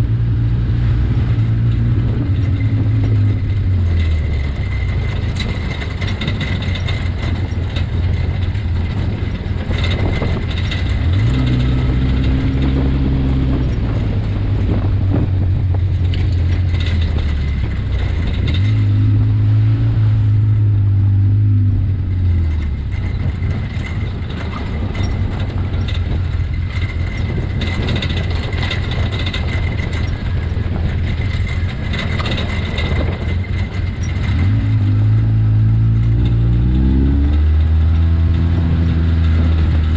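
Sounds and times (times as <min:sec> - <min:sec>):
off-road vehicle engine revving: 0:00.0 - 0:39.9
vehicle rattling over rough ground: 0:00.0 - 0:39.9.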